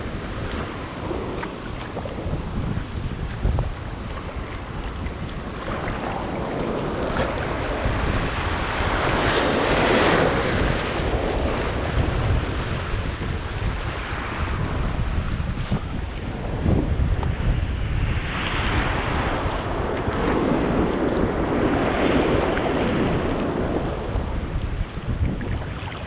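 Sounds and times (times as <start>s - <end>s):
sea waves surging: 0.0s - 26.0s
wind buffeting microphone: 0.0s - 26.0s.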